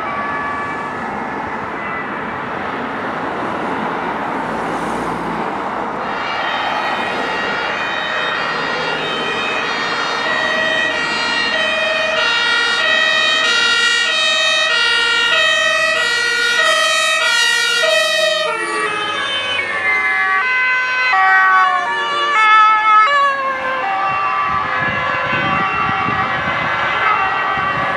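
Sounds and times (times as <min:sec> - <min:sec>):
two-tone siren: 0:00.0 - 0:03.0, 0:04.4 - 0:27.9
vehicle road noise: 0:00.0 - 0:27.9.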